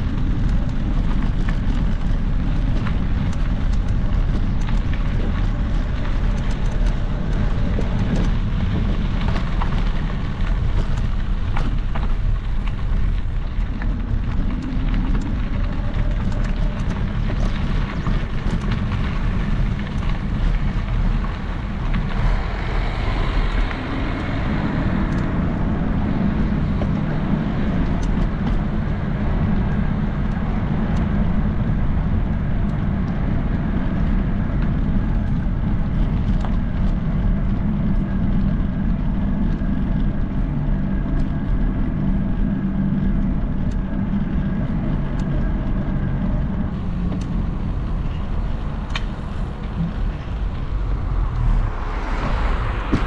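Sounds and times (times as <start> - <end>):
vehicle engine running: 0.0 - 32.8, 37.3 - 53.0
street traffic noise: 0.0 - 53.0
faint steady drone: 2.0 - 53.0.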